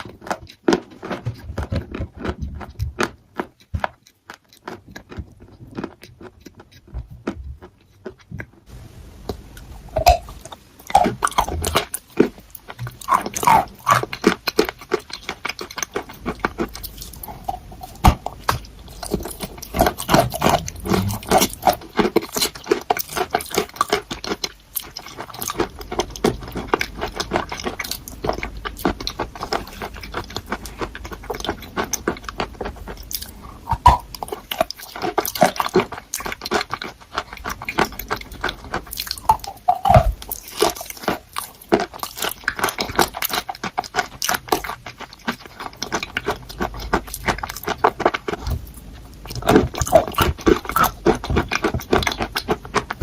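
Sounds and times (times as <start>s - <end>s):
chalk being chewed: 10.0s - 53.0s.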